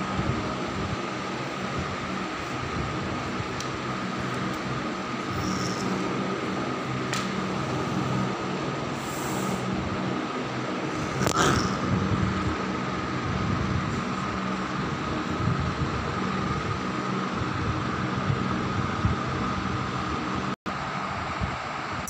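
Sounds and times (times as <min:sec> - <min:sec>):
high whine: 0:00.0 - 0:22.0
mechanical hum and hiss: 0:00.0 - 0:22.0.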